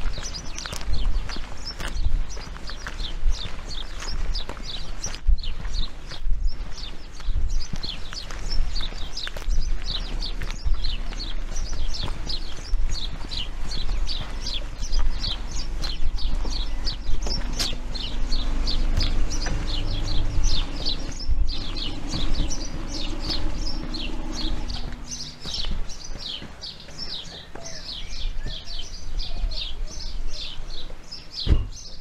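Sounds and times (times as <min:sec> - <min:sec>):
birds chirping: 0:00.0 - 0:32.0
footsteps on pavement: 0:00.0 - 0:32.0.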